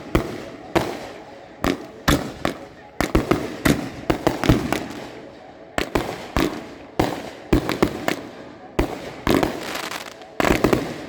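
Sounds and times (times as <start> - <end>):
sharp echoing bangs and pops: 0.0 - 11.0.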